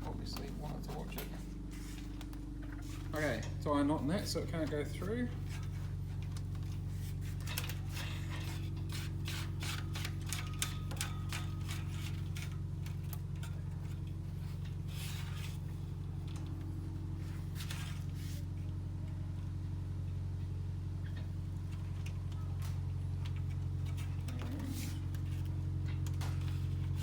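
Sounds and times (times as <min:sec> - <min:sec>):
electrical wire clicks and rustles: 0:00.0 - 0:19.2, 0:21.0 - 0:27.0.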